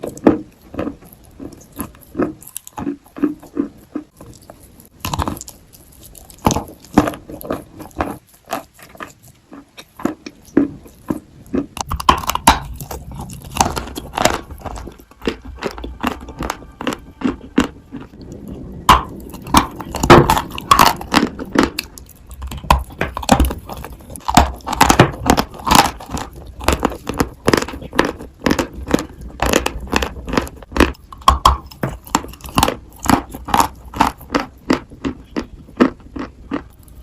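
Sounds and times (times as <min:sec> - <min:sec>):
chewing crunchy chalk: 0:00.0 - 0:37.0.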